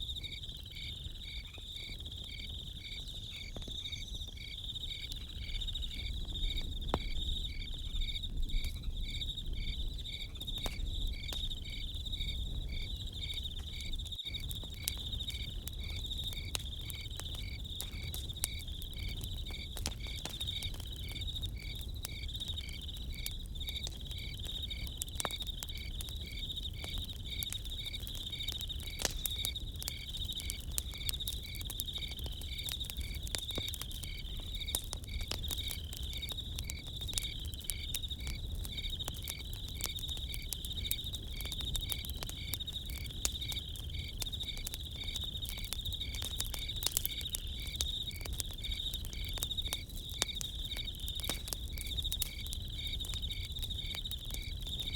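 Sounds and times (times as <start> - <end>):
campfire crackling and popping: 0.0 - 54.9
crickets chirping: 0.0 - 54.9
high insect trill: 0.0 - 54.9.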